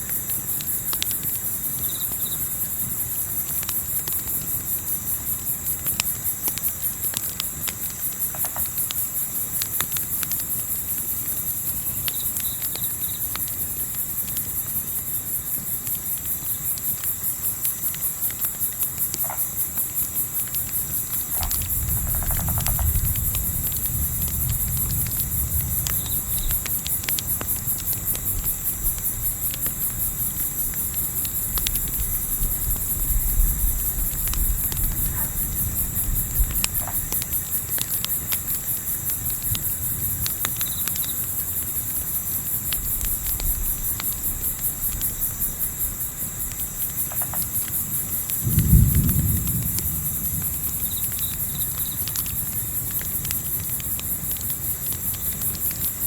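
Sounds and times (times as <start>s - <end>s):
campfire crackles: 0.0s - 56.0s
crickets chirping: 0.0s - 56.0s.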